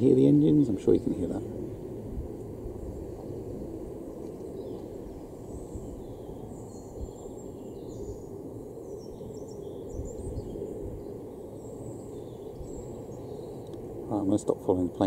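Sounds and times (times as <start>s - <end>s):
jet engines rumbling overhead: 0.0s - 15.0s
small birds chirping: 2.7s - 15.0s.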